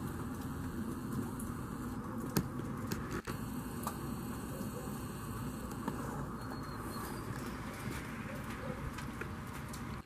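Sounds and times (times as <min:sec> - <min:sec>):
light rain hissing: 0:00.0 - 0:10.0.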